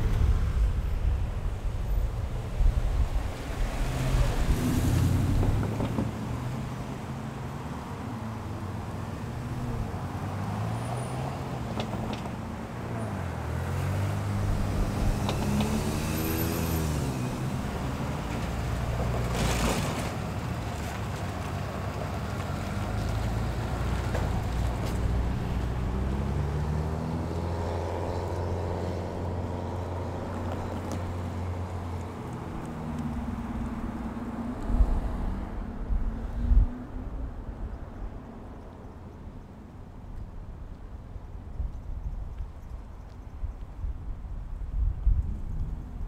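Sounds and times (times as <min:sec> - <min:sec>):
vehicle engines passing: 0:00.0 - 0:46.0.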